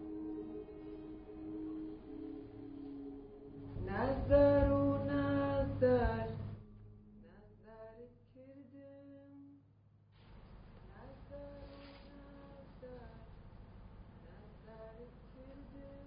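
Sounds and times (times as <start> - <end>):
low steady drone: 0.0 - 16.0.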